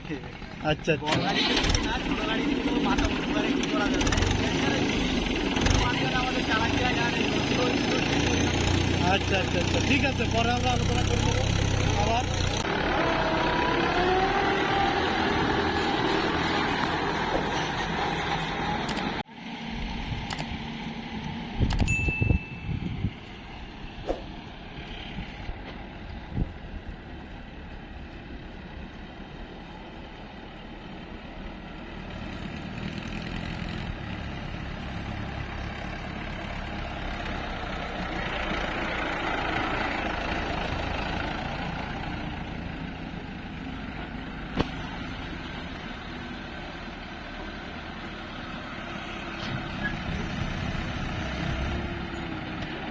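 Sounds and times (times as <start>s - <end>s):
diesel engine running: 0.0s - 21.9s, 22.6s - 52.9s.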